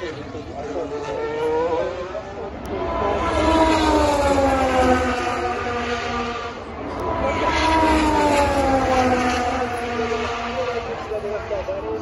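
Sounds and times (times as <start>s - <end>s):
racing cars passing at high revs: 0.0s - 12.0s.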